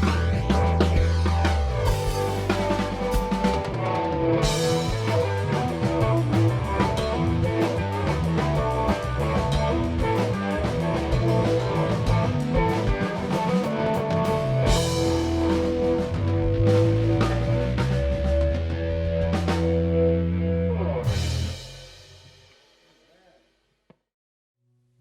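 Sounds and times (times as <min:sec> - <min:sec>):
rock band playing: 0:00.0 - 0:22.4.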